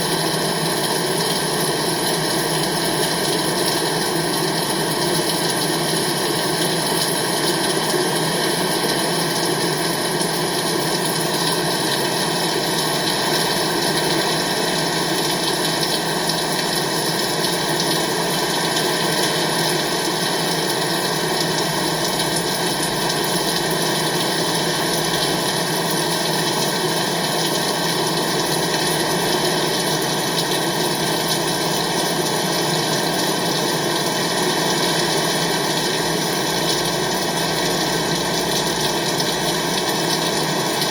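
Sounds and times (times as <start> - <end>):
rain falling steadily: 0.0 - 40.9.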